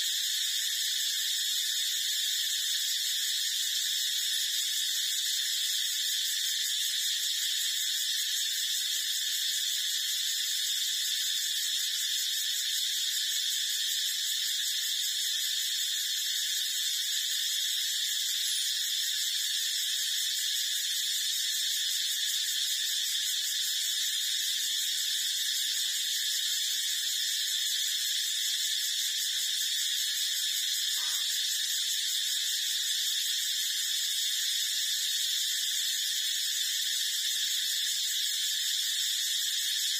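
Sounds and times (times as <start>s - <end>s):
steady high-pitched hiss: 0.0s - 39.9s.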